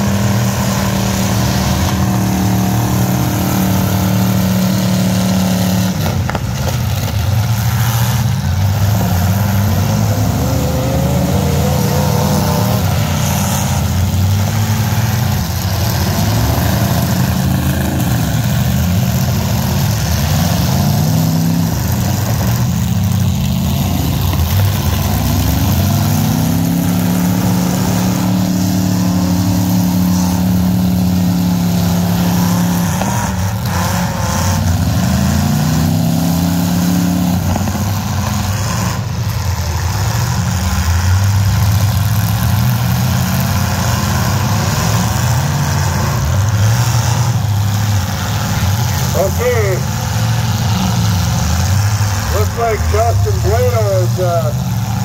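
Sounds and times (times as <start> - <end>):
truck engines revving high: 0.0 - 55.0.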